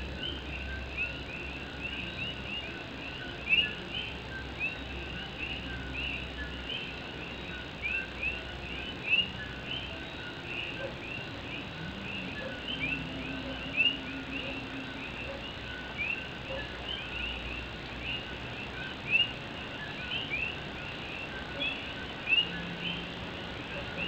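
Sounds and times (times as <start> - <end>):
chorus of frogs calling: 0.0 - 24.0
faint rain hiss: 0.0 - 24.0.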